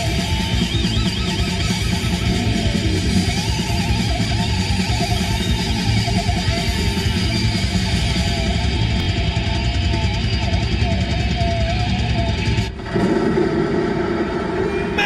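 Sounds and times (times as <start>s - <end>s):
distorted electric guitars: 0.0s - 15.0s.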